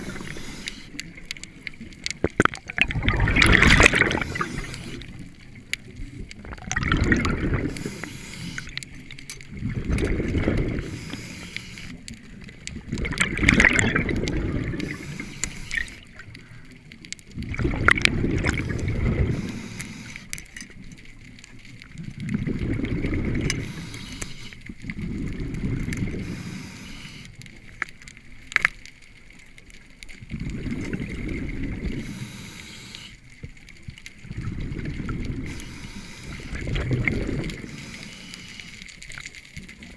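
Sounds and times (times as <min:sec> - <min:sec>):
exhaled bubbles rumbling underwater: 0:00.0 - 0:39.9.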